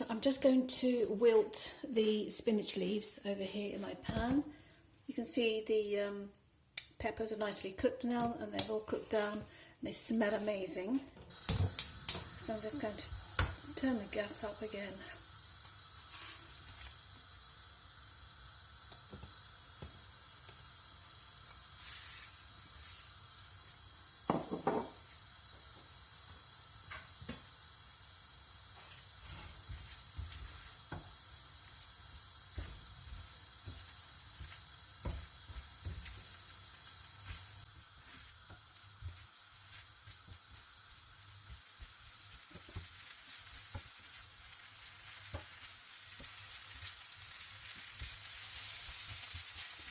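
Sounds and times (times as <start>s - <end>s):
vegetables sizzling in oil: 0.0s - 1.5s, 10.0s - 49.9s.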